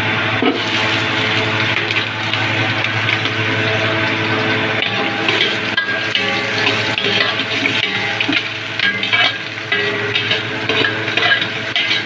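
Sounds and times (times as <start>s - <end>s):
garlic sizzling in hot oil: 0.4s - 12.0s.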